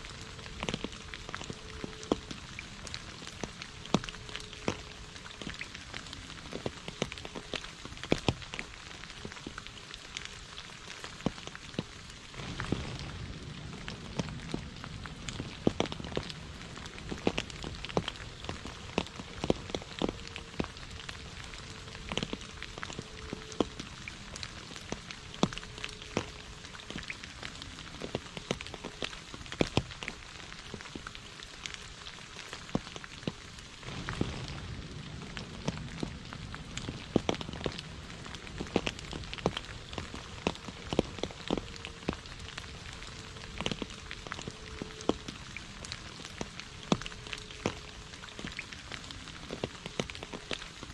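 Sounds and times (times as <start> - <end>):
rain hissing: 0.0 - 50.9.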